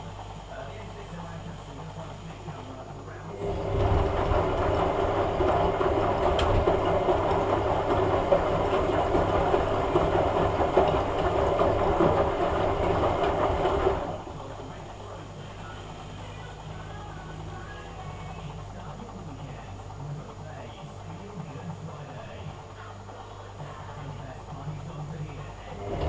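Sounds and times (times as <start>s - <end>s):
washing machine motor turning drum: 0.0s - 26.0s.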